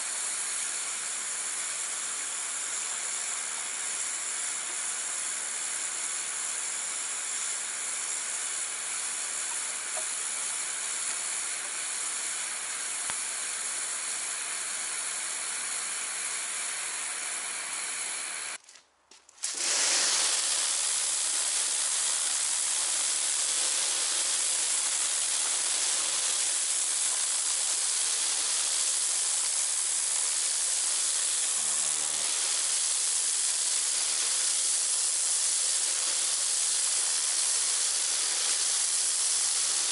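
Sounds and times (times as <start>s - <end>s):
pressure washer jet spraying concrete: 0.0s - 18.6s, 19.4s - 39.9s.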